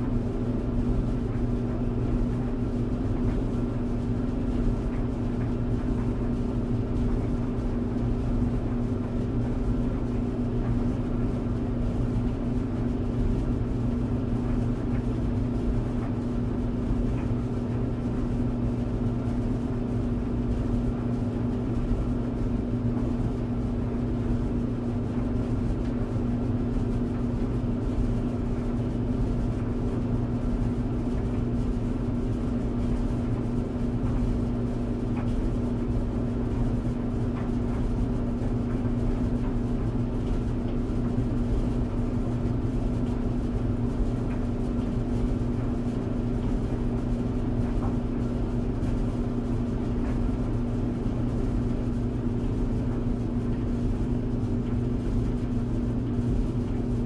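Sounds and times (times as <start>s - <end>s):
tumble dryer running: 0.0s - 57.0s.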